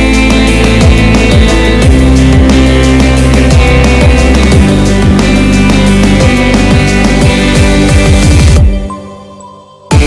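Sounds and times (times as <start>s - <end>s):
distorted rock guitar: 0.0s - 9.1s
kick drum beat: 0.1s - 8.9s.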